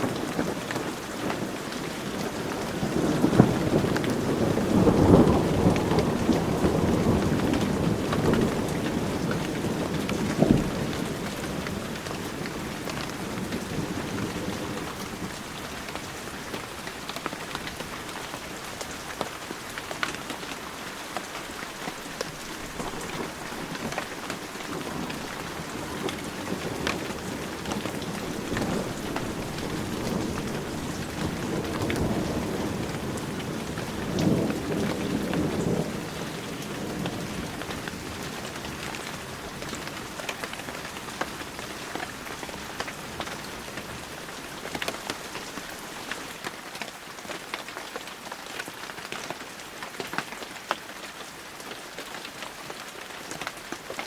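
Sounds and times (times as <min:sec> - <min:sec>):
low rumble of thunder: 0:00.0 - 0:20.5, 0:21.4 - 0:46.1
heavy rain: 0:00.0 - 0:54.0.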